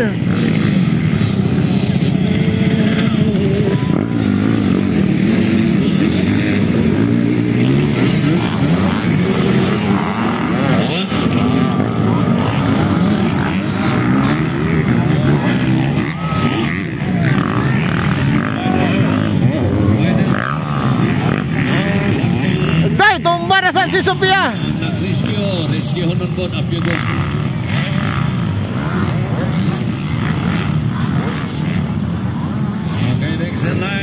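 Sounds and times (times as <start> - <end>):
motocross bikes revving: 0.0 - 34.0.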